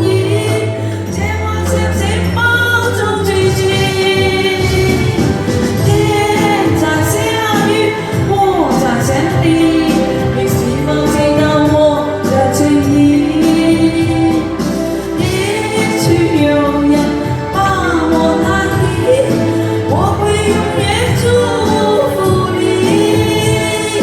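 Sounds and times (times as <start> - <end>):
backing music: 0.0 - 24.0
person singing pop ballad: 0.0 - 24.0.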